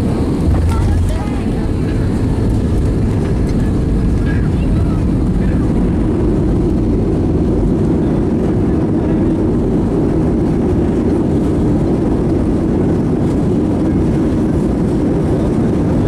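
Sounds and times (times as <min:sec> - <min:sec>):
aircraft engine noise: 0:00.0 - 0:16.0
landing gear rumbling on runway: 0:00.0 - 0:16.0.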